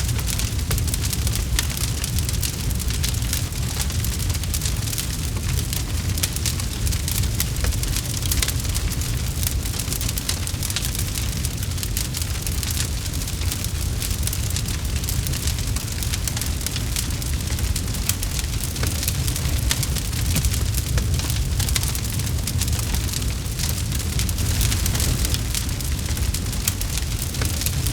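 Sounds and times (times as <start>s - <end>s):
burning wood crackling and popping: 0.0s - 27.9s
campfire low rumble: 0.0s - 27.9s.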